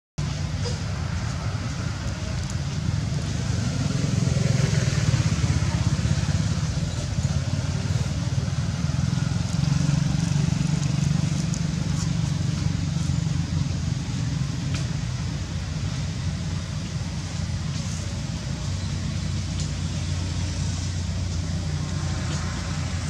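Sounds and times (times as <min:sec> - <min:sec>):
vehicle engine rumbling: 0:00.2 - 0:23.0.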